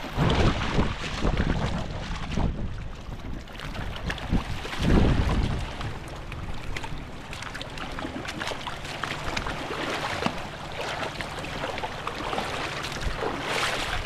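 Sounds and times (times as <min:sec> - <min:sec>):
low steady hum: 0:00.0 - 0:14.0
water splashing and dripping: 0:00.0 - 0:14.0.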